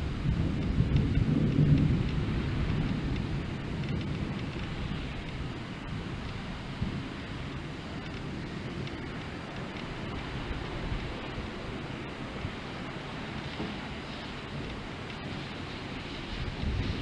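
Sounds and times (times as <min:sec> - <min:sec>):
rain: 0:00.0 - 0:17.0
storm wind: 0:00.0 - 0:17.0.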